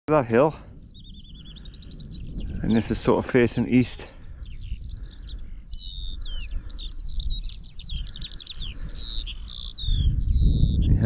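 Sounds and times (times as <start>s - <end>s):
songbird chirping and warbling: 0.1s - 11.0s
wind rumble on microphone: 0.1s - 11.0s.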